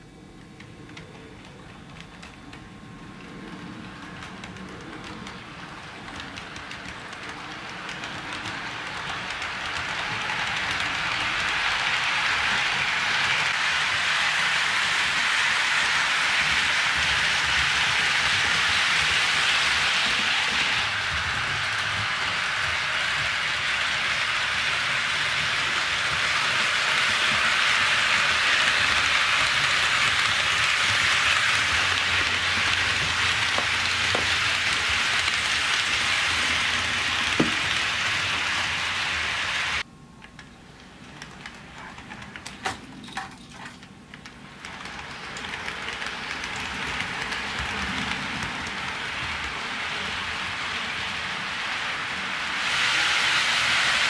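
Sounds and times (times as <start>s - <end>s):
model train wheels rushing on rails: 0.0s - 54.0s.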